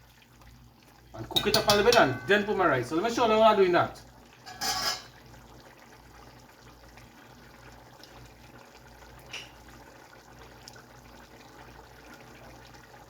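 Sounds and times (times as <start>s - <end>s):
pot bubbling and hissing: 0.0s - 13.0s.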